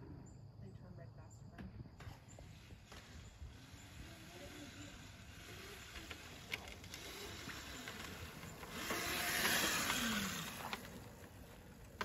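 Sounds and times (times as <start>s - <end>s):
electric dirt bike passing on grass: 2.0s - 12.0s.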